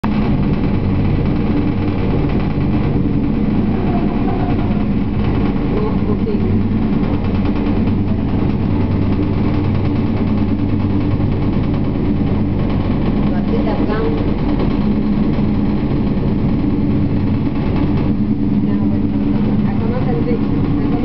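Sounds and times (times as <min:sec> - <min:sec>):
helicopter rotor beating: 0:00.0 - 0:21.0
turbine hum: 0:00.0 - 0:21.0.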